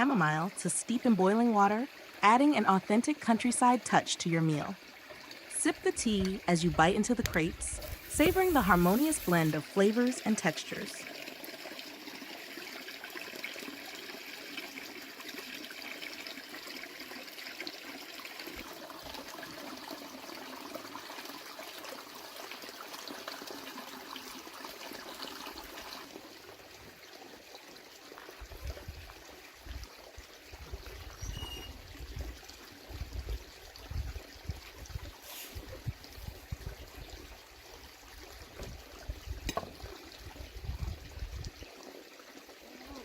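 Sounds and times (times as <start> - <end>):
water trickling: 0.0 - 43.0.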